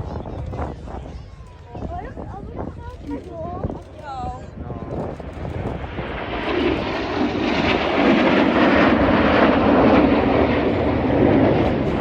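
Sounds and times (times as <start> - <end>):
jet roar: 0.0 - 12.0.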